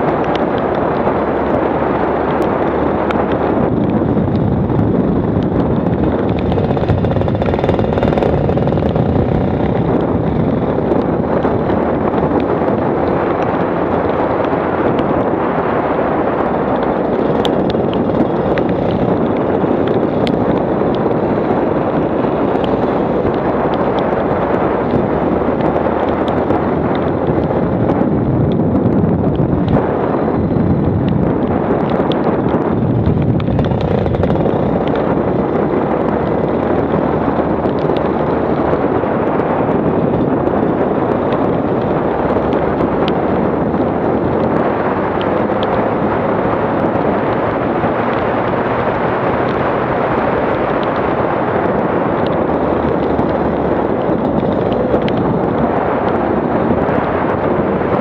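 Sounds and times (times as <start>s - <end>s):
go-kart engine running: 0.0s - 58.0s
wind buffeting microphone: 0.0s - 58.0s.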